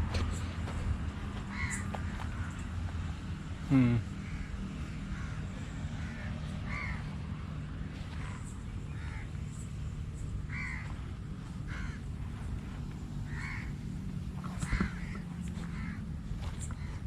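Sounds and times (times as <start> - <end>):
steady low hum: 0.0 - 17.0
birds harsh calls: 1.4 - 3.1, 3.7 - 17.0.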